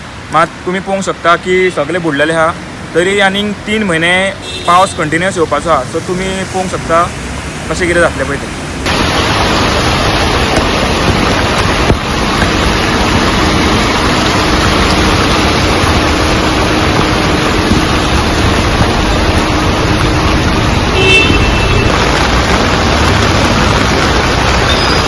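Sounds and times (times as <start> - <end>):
heavy rain on street: 0.0 - 25.0
vehicles passing through water: 0.0 - 25.0.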